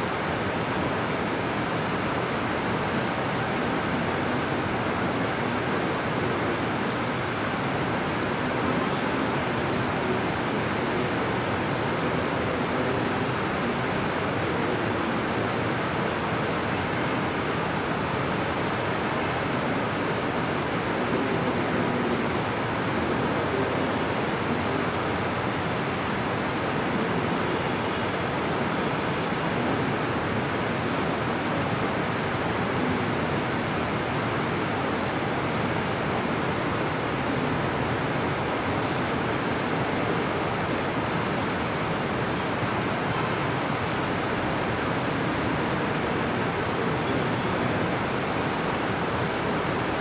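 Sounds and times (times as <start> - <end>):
steady rushing noise: 0.0 - 50.0.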